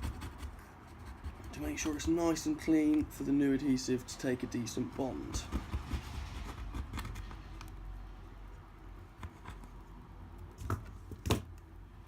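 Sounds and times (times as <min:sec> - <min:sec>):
road traffic rumble: 0:00.5 - 0:12.0.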